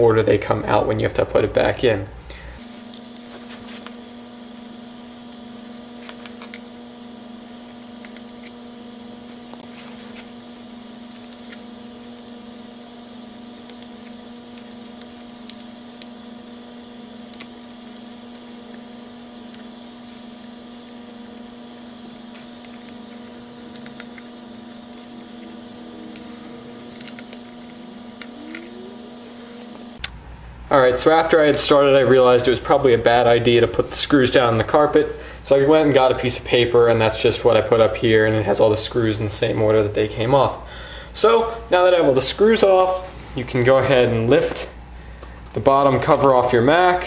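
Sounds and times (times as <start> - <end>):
electrical hum: 0.0 - 47.0.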